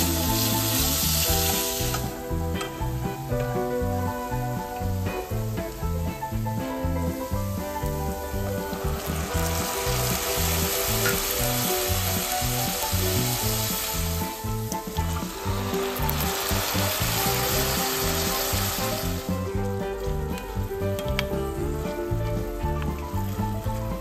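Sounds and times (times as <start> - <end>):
sauce being poured: 0.0 - 2.8, 7.3 - 23.9
meat sizzling in a frying pan: 0.0 - 24.0.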